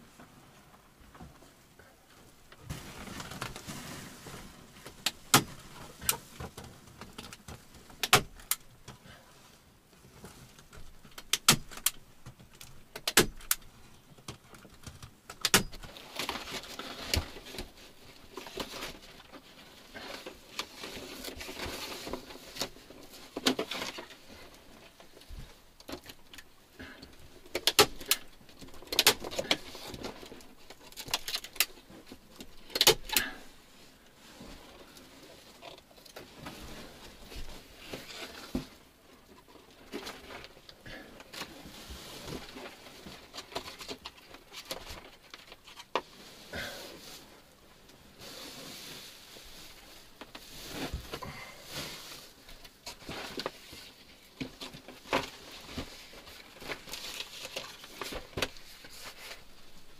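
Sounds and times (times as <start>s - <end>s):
rustling: 0.0s - 59.9s.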